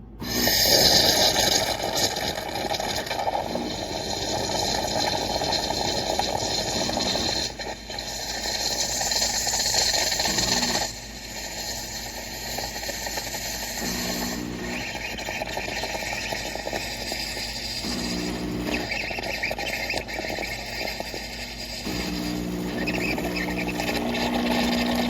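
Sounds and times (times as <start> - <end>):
espresso machine buzzing and hissing: 0.0 - 25.0.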